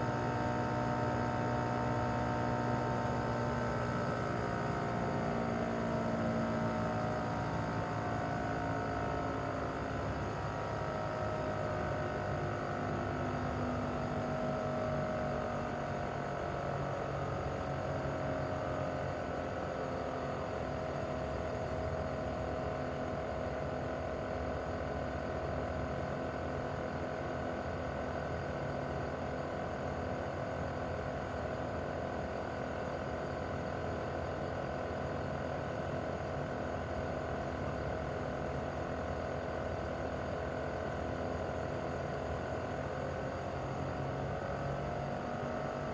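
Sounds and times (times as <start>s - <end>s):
air conditioner hum with whine: 0.0s - 45.9s.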